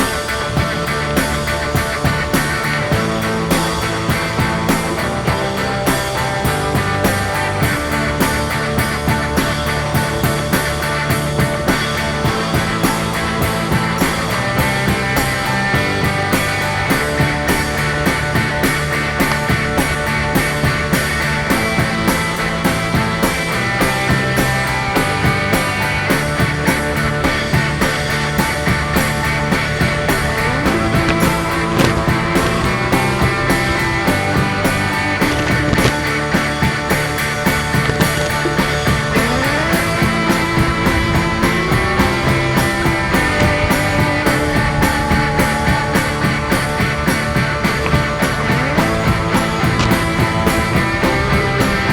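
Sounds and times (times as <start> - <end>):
rock music with electric guitar: 0.0 - 51.9.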